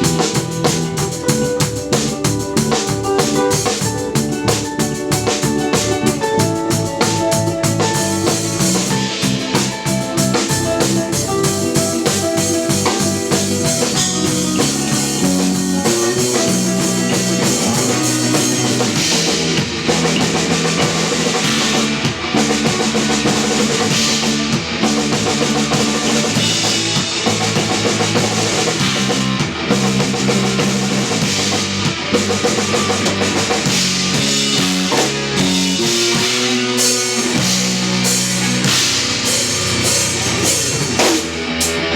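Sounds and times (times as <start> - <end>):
drum kit beat: 0.0 - 41.9
electric bass: 0.0 - 41.9
electric guitar: 0.0 - 41.9.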